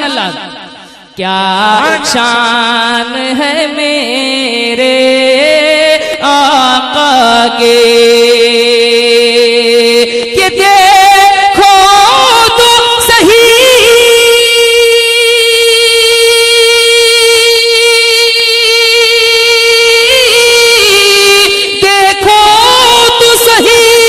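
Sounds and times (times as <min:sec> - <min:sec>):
man singing held note with vibrato: 0:00.0 - 0:24.0.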